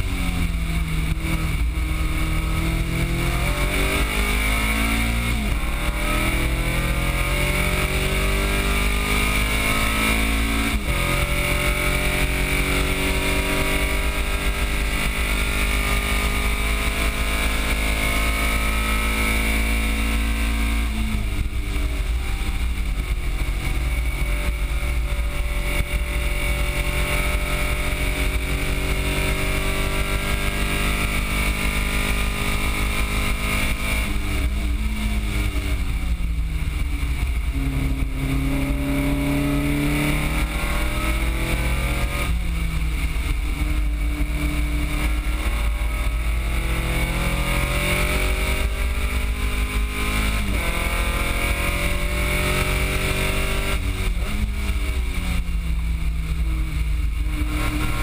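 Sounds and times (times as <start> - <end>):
car engine revving: 0.0 - 58.0
wind and road noise: 0.0 - 58.0.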